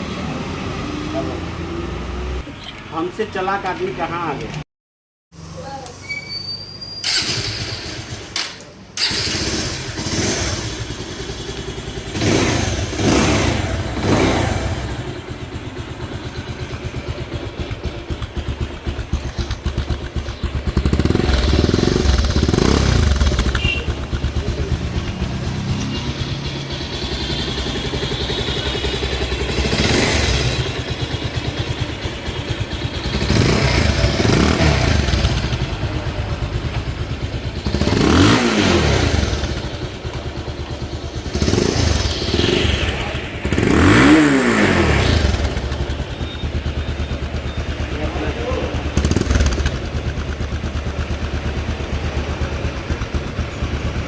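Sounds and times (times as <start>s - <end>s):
motorcycle engine revving: 7.0s - 54.0s.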